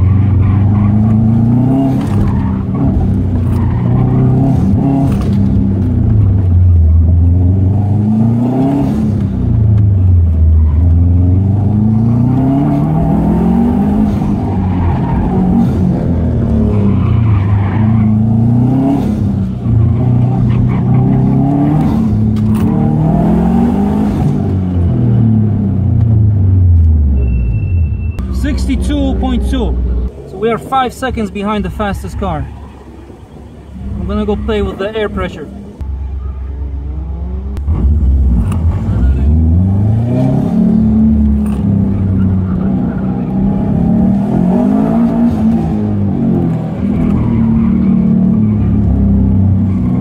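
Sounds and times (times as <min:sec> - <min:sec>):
car engine revving: 0:00.0 - 0:27.3, 0:28.2 - 0:50.0.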